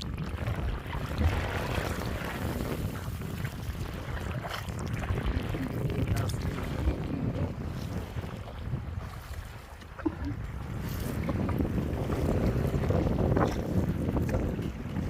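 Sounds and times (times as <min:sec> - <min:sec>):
water sloshing: 0:00.0 - 0:15.0
wind buffeting the microphone: 0:00.0 - 0:15.0.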